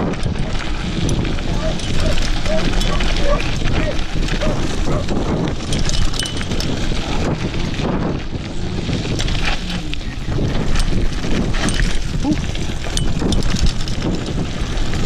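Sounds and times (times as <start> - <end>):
bike clicks and rattles: 0.0 - 15.0
bike tyres on gravel: 0.0 - 15.0
wind buffeting microphone: 0.0 - 15.0.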